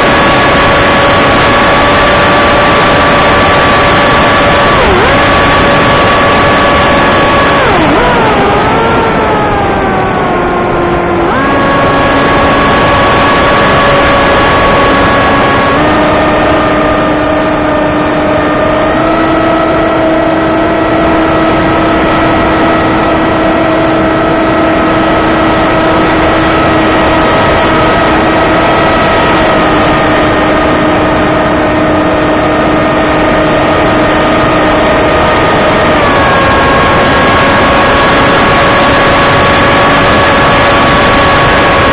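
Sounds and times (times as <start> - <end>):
model plane motor and propeller: 0.0 - 41.9
wind noise rushing: 0.0 - 41.9.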